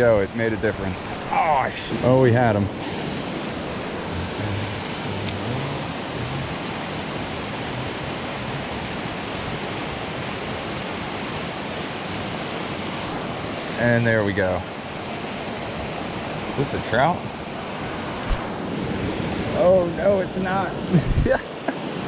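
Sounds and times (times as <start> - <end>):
creek rushing over rocks: 0.0 - 20.2.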